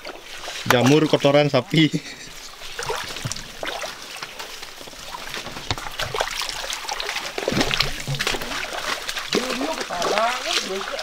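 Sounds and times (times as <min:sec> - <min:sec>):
stream trickling: 0:00.0 - 0:11.0.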